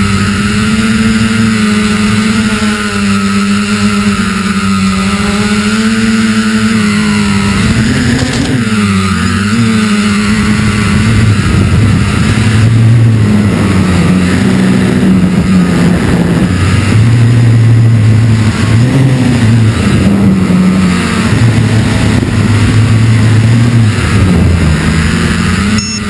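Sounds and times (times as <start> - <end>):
quadcopter motors humming: 0.0 - 26.0.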